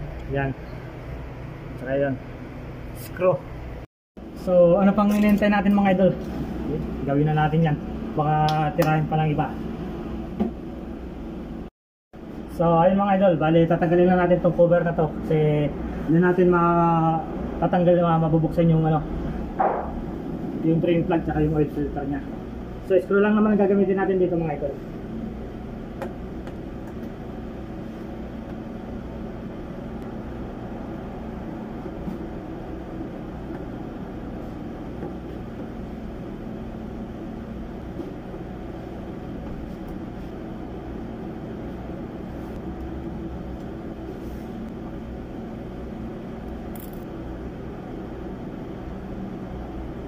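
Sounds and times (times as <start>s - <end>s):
low machine hum: 0.0s - 50.0s.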